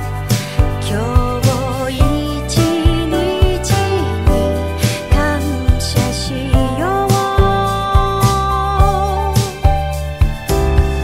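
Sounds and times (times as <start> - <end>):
gliding melody over steady beat: 0.0 - 11.0.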